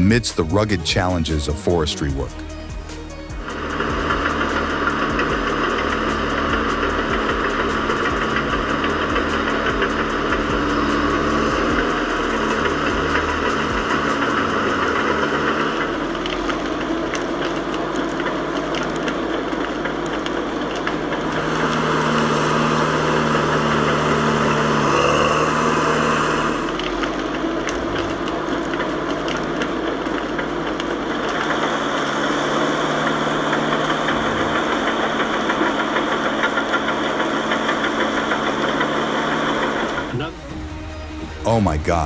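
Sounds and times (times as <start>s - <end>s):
heavy diesel engine under load: 0.0s - 42.0s.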